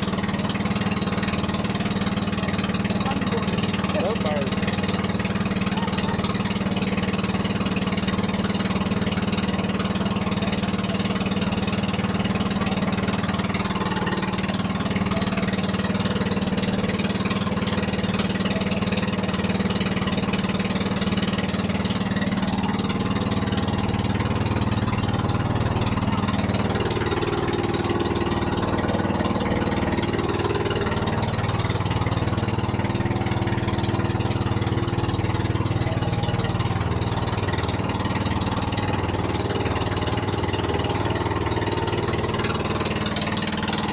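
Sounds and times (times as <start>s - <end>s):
small boat engine running: 0.0s - 43.9s.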